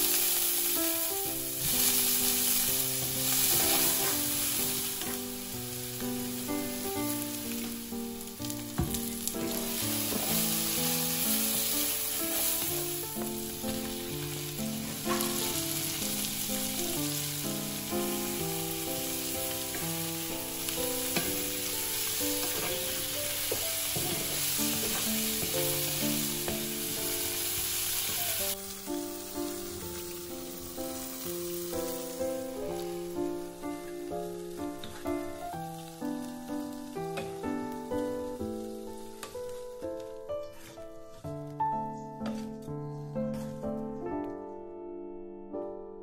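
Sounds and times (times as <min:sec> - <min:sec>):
shrimp sizzling in a skillet: 0:00.0 - 0:40.7
gentle background music: 0:00.0 - 0:46.0.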